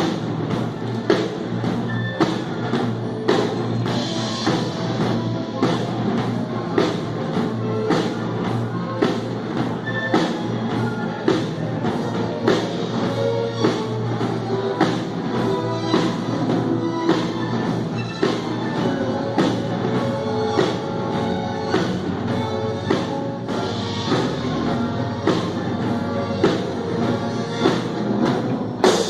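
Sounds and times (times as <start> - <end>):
drum kit hits: 0.0 - 29.0
rock band playing: 0.0 - 29.0.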